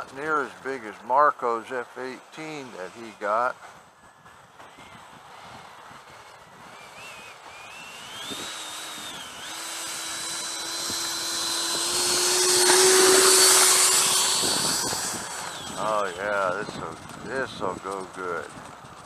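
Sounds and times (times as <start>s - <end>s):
electric ducted fan whine: 0.0s - 19.0s.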